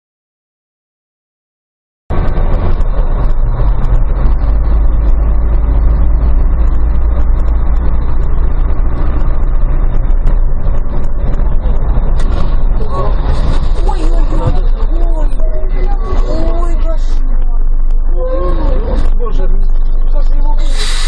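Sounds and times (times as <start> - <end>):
vehicle engine and road rumble: 2.1 - 21.0.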